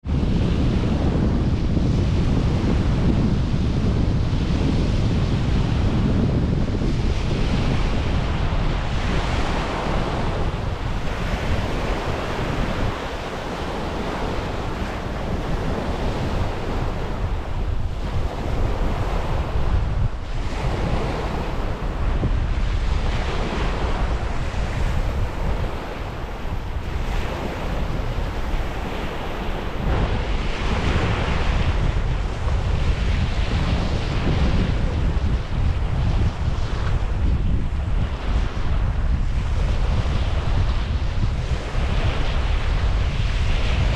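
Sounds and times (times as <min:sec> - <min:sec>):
waves washing onto beach: 0:00.0 - 0:43.9
wind buffeting microphone: 0:00.0 - 0:43.9.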